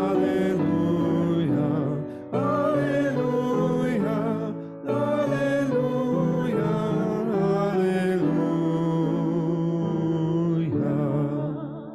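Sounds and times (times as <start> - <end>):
voices singing a hymn: 0.0 - 11.9.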